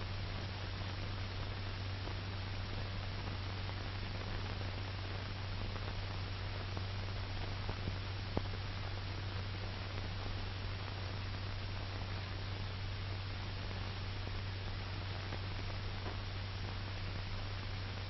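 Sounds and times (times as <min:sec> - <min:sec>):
faint crackles: 0:00.0 - 0:18.0
film soundtrack hiss and hum: 0:00.0 - 0:18.0.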